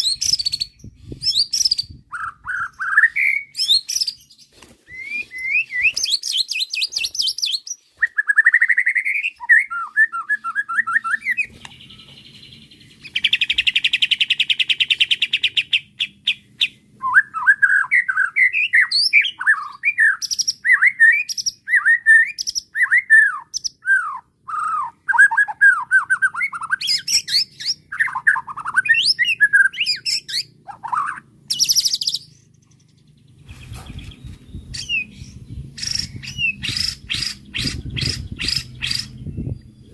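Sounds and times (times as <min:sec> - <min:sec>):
bird singing whistled phrases: 0:00.0 - 0:04.3, 0:04.9 - 0:12.2, 0:16.3 - 0:32.3, 0:33.8 - 0:39.9.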